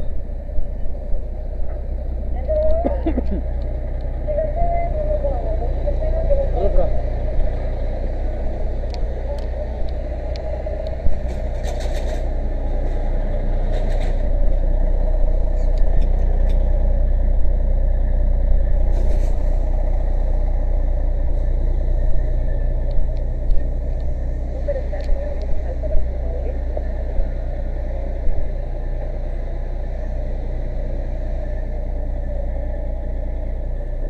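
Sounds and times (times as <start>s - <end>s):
fire engine motor droning: 0.0s - 34.0s.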